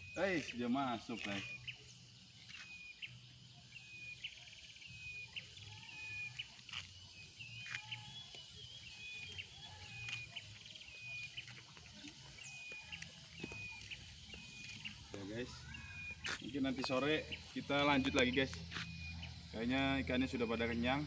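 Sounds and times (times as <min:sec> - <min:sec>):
high chirping animal calls: 0:00.0 - 0:21.0.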